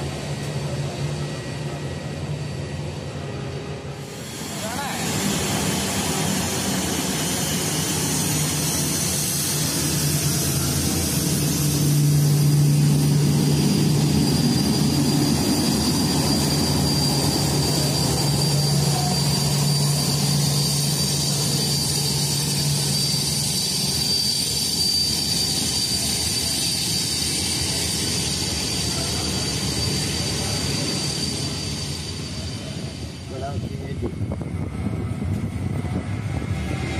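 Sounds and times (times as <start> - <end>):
jet engines running: 0.0 - 36.9.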